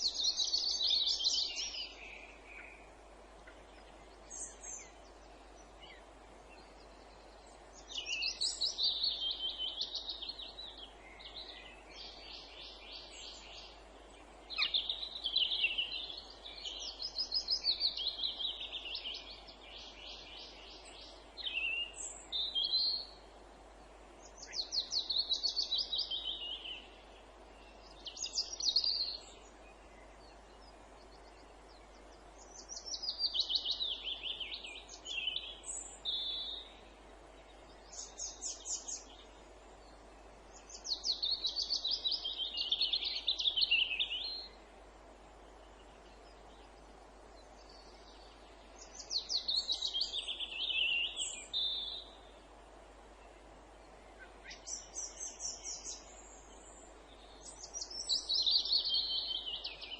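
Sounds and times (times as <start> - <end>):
faint background hiss: 0.0 - 59.9
songbird singing: 0.0 - 59.9.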